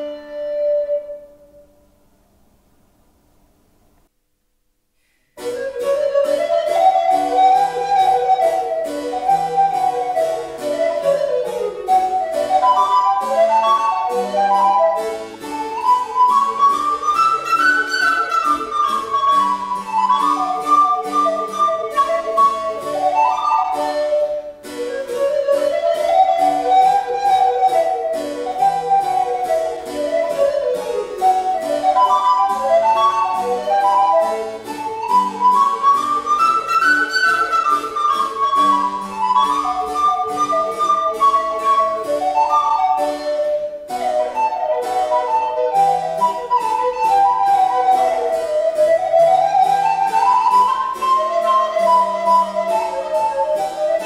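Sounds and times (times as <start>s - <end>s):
recorder playing quick melody: 0.0s - 1.9s, 5.4s - 54.0s
harpsichord: 5.4s - 54.0s.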